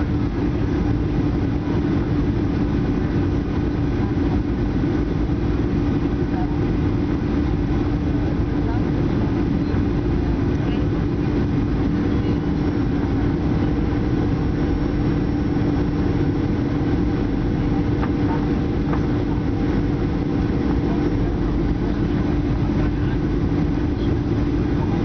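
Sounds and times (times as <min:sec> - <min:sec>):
jet engine cabin drone: 0:00.0 - 0:25.0.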